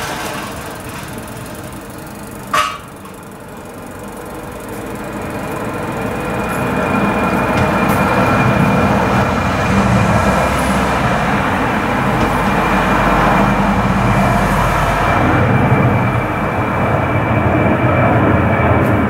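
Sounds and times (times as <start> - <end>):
high-pitched engine whine: 0.0 - 19.0
jet engine roar at takeoff: 0.0 - 19.0.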